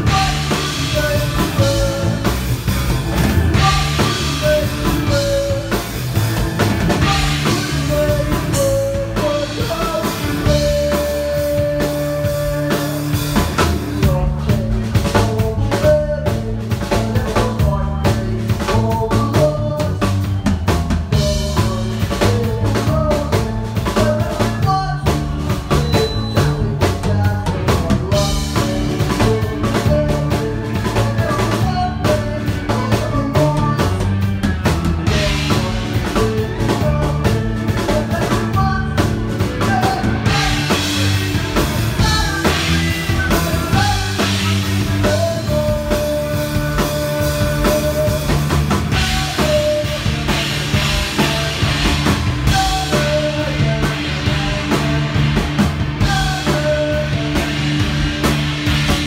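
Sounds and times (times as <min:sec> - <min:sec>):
drum kit snare and bass drum: 0:00.0 - 0:59.0
live rock band playing: 0:00.0 - 0:59.0
steady bass line: 0:00.0 - 0:59.0.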